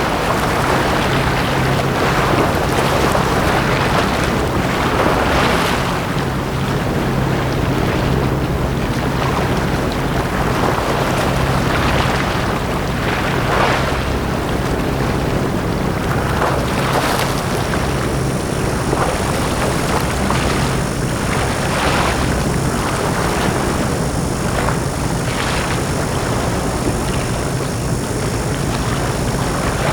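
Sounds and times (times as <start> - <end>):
sea waves washing up on beach: 0.0 - 29.9
steady low hum: 0.0 - 29.9
wind on microphone: 0.0 - 29.9.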